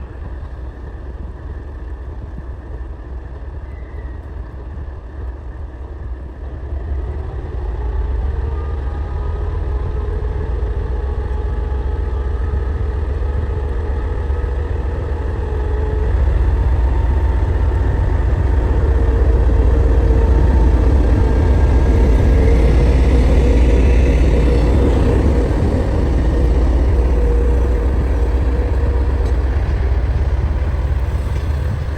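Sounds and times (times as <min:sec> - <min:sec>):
diesel locomotive engine rumbling: 0:00.0 - 0:31.9.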